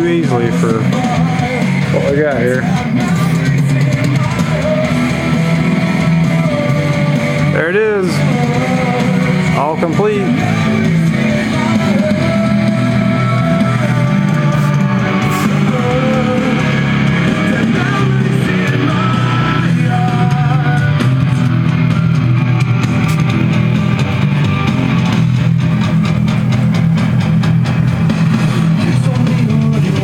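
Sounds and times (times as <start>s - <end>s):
person singing: 0.0s - 25.2s, 28.3s - 30.0s
rock music with electric guitar: 0.0s - 30.0s.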